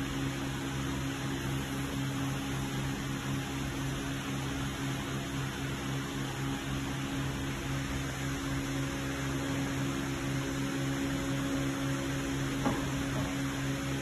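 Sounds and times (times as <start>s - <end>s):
electrical machinery hum: 0.0s - 14.0s.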